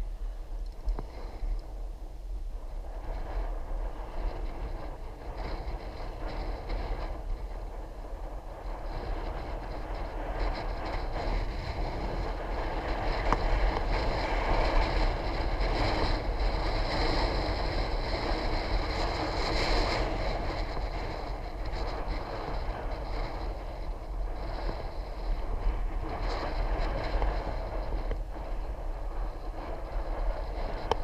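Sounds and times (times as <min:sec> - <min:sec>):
wind rush: 0:00.0 - 0:31.0.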